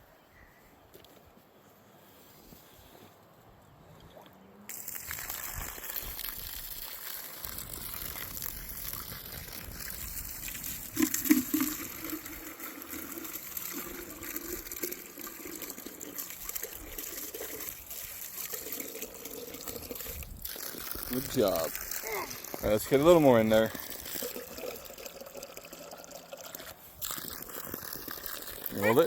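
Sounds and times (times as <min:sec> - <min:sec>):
water running into a waterer: 0:04.7 - 0:29.0.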